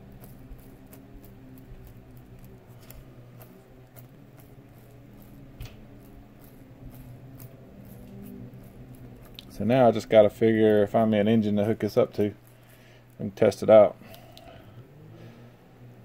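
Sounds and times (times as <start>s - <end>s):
gears clicking and ticking: 0.0s - 14.5s
steady low hum: 0.0s - 16.0s.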